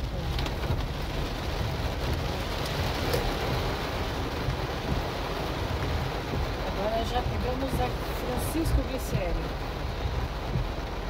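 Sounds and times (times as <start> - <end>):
heavy rain on car windshield: 0.0 - 11.0
steady low rumble: 0.0 - 11.0.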